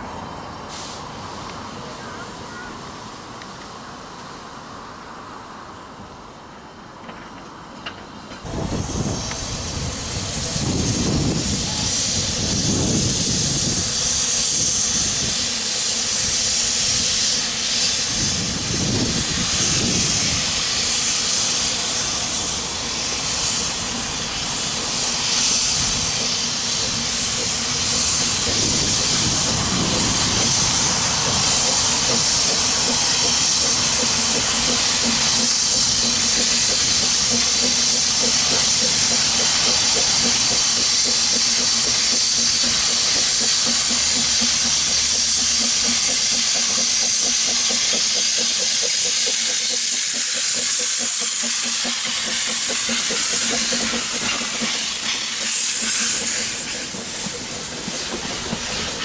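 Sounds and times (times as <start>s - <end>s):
steam hissing from locomotive: 0.0s - 5.7s, 8.1s - 59.0s.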